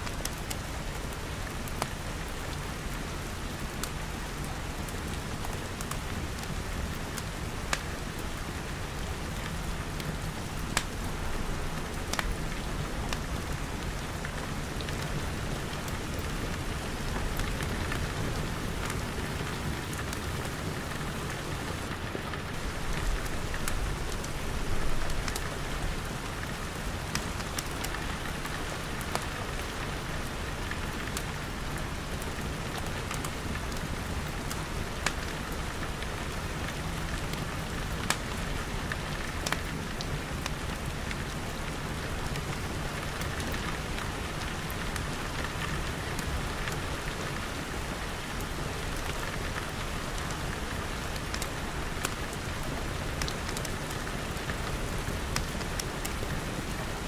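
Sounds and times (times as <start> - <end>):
wood fire crackling: 0.0 - 57.0
rain pattering on glass: 3.8 - 57.0.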